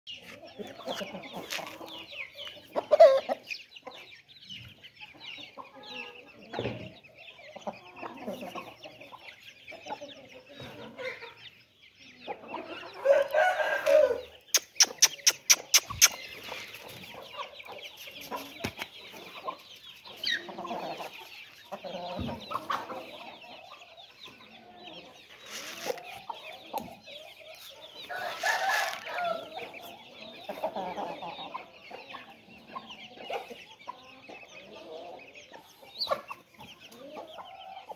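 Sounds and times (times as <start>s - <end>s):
chicks cheeping: 0.1s - 37.9s
hens clucking: 0.1s - 37.9s.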